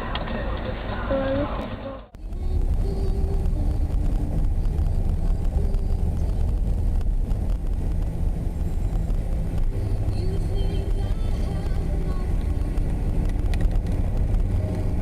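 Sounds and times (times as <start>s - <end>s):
car interior engine and tyre rumble: 0.0s - 15.0s.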